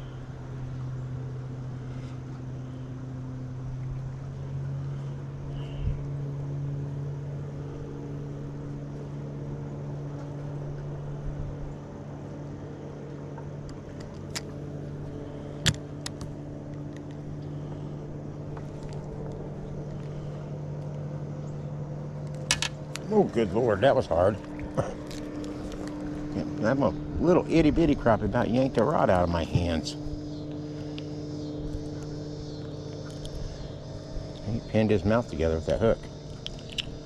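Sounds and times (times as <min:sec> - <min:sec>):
boat motor humming: 0:00.0 - 0:37.0.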